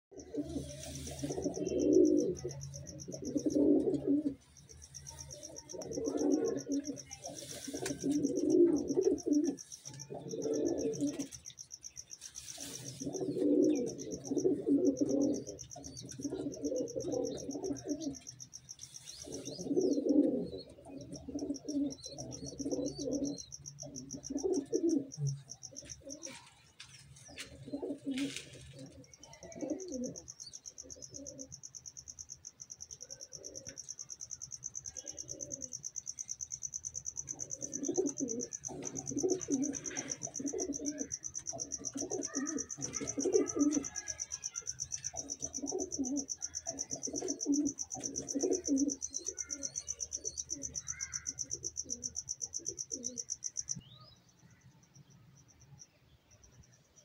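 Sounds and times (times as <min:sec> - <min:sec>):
pigeons cooing: 0:00.1 - 0:32.1, 0:32.9 - 0:53.8.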